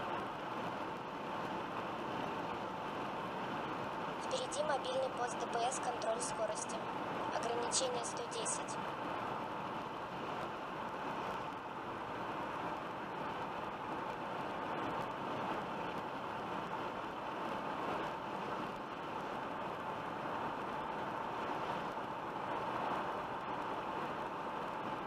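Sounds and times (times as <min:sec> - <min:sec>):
faint steady whine: 0:00.0 - 0:25.0
road and tyre noise: 0:00.0 - 0:25.0.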